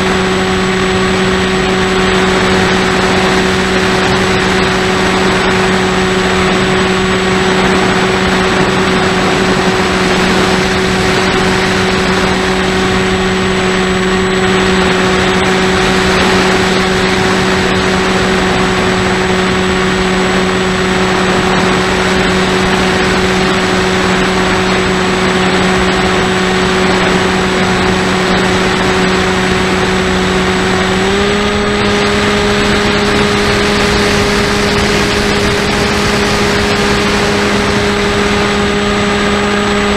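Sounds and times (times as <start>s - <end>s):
model aircraft motor hum: 0.0s - 39.9s
rushing wind noise: 0.0s - 39.9s.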